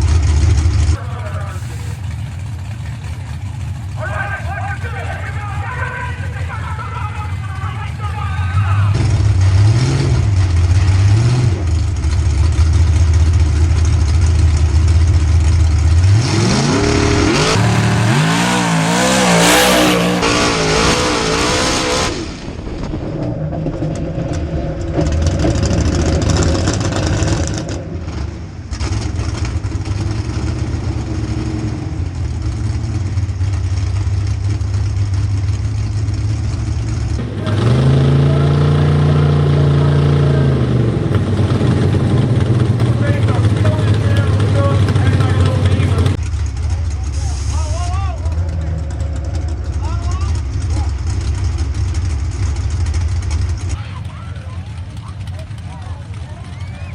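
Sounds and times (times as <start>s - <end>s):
truck engine revving: 0.0s - 56.9s.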